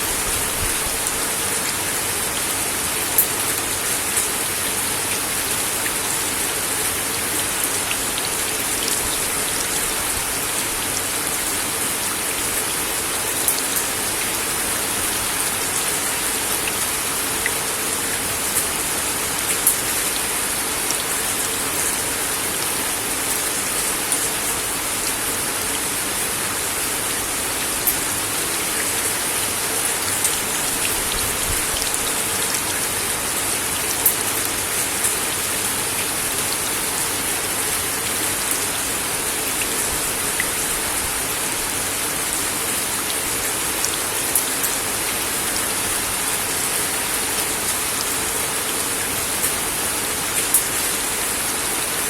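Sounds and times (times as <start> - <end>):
rain on a wooden deck: 0.0 - 52.0.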